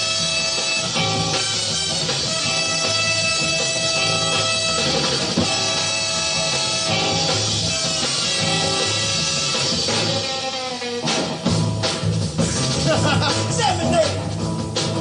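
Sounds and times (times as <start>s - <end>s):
electric guitar break: 0.0s - 15.0s
live soul band playing: 0.0s - 15.0s.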